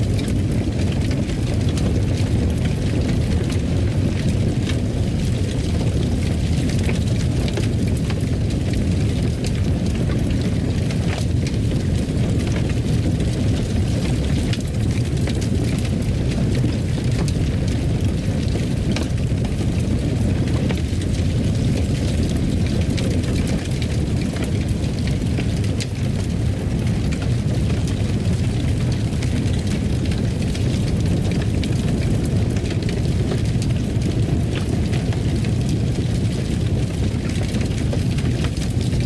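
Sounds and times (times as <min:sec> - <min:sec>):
fireplace fire crackling: 0:00.0 - 0:39.0.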